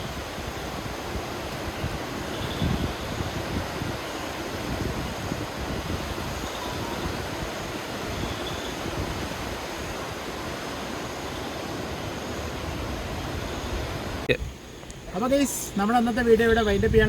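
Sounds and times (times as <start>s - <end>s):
wind buffeting microphone: 0.0s - 9.8s, 13.0s - 17.0s
wind blowing through trees: 0.0s - 17.0s.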